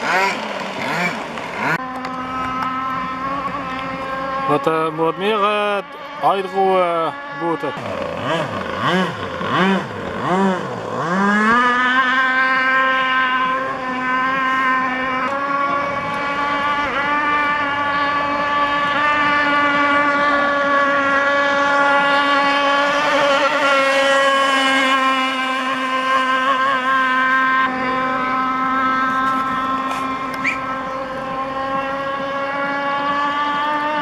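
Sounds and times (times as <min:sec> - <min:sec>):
model powerboat engine revving: 0:00.0 - 0:34.0.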